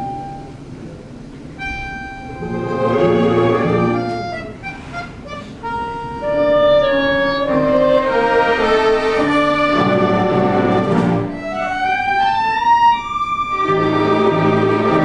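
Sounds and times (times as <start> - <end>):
orchestra playing a waltz: 1.5 - 15.0.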